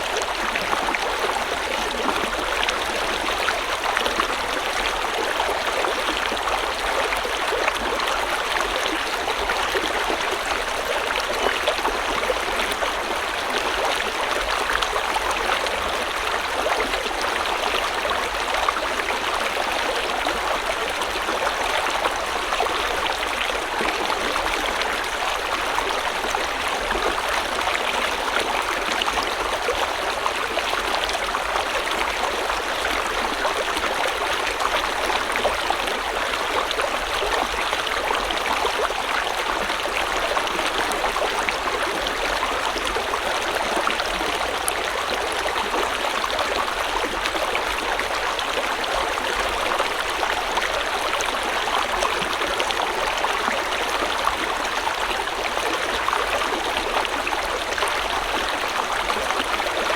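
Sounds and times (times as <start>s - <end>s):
stream water flowing and splashing: 0.0s - 59.9s.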